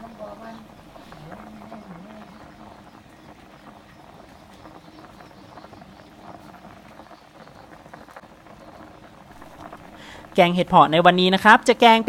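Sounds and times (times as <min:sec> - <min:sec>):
broth boiling and bubbling: 0:00.0 - 0:12.0.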